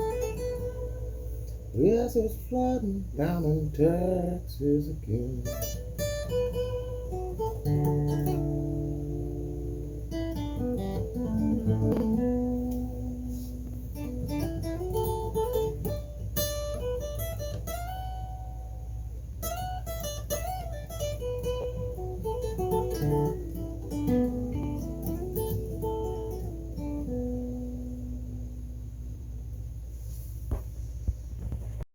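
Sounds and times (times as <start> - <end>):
slow blues guitar: 0.0 - 29.8
steady low hum: 0.0 - 31.9.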